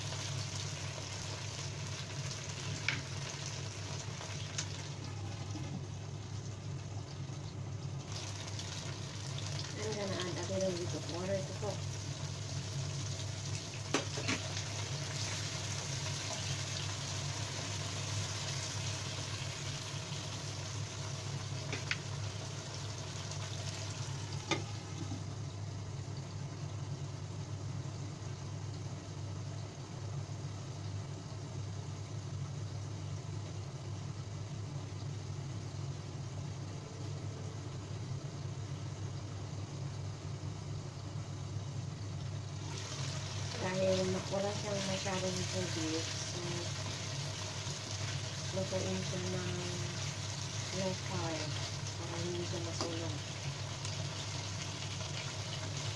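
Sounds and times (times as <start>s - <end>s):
food sizzling in a wok: 0.0s - 36.1s, 38.4s - 55.9s
steady low hum: 0.0s - 55.9s.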